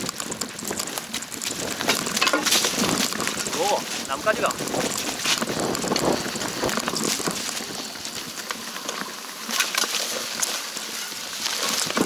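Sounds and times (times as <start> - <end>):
bike rattling clicks and knocks: 0.0 - 12.0
bike tyres on dirt trail: 0.0 - 12.0.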